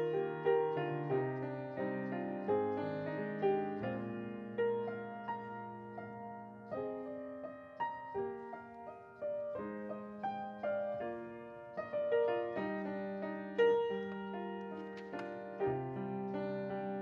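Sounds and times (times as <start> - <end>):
slow quiet piano piece: 0.0 - 17.0.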